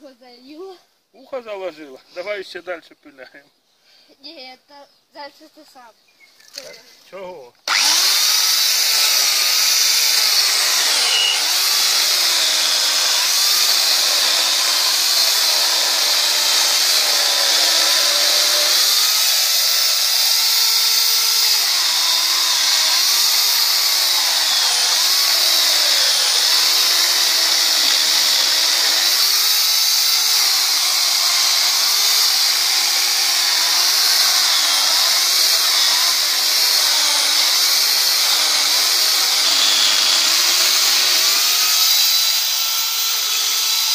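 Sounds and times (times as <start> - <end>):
electric chainsaw cutting log: 7.6 - 43.9.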